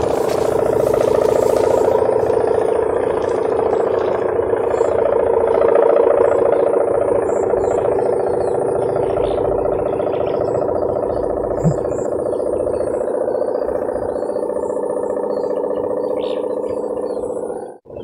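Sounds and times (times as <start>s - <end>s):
kite hummer droning: 0.0s - 18.0s.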